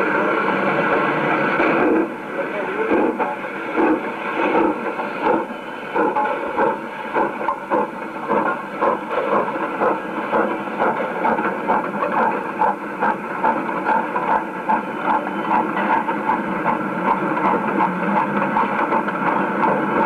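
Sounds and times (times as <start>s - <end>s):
rattling rail noise: 0.0s - 20.0s
steam locomotive chuffing: 0.0s - 20.0s.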